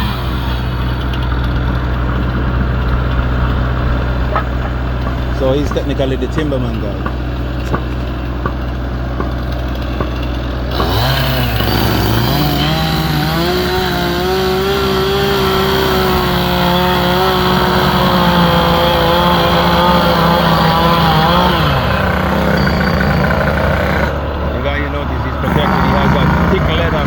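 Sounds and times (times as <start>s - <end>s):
chainsaw cutting timber: 0.0s - 27.0s.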